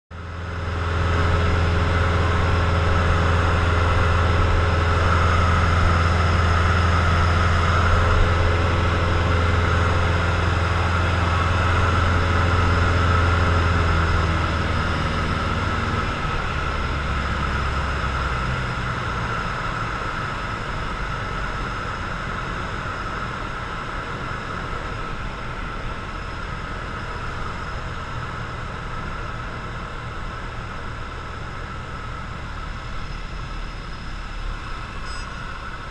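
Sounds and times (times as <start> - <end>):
airplane piston engine and propeller: 0.1 - 35.9
wind noise over airframe: 0.5 - 35.9.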